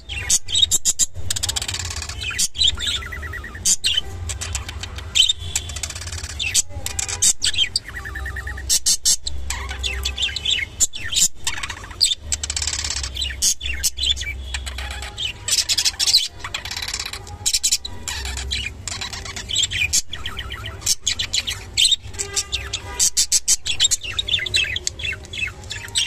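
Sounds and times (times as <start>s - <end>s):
budgerigars chattering and warbling: 0.0s - 26.0s.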